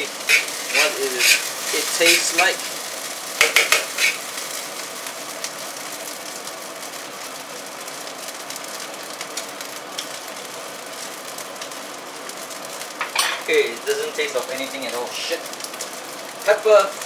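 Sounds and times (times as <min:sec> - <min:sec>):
rice sizzling in a pan: 0:00.0 - 0:17.0.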